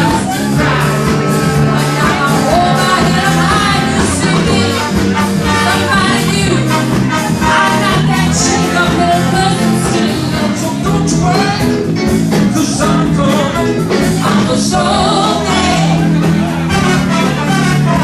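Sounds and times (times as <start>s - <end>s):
person singing: 0.0s - 16.3s
live dance band playing: 0.0s - 18.0s.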